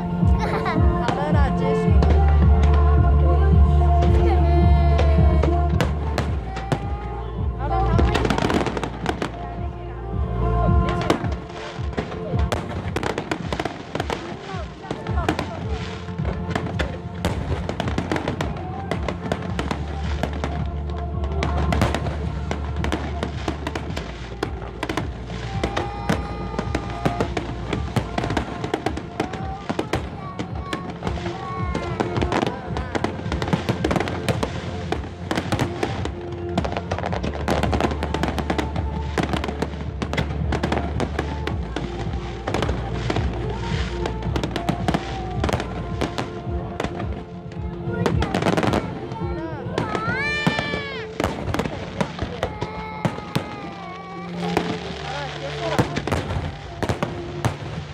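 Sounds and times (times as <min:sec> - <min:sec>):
fireworks bursting and crackling: 0:00.0 - 0:57.9
music playing: 0:00.0 - 0:57.9.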